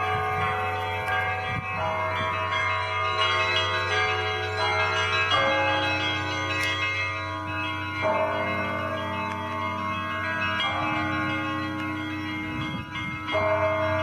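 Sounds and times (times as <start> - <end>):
church bells ringing: 0.0 - 14.0
low hum of large bell: 0.0 - 14.0.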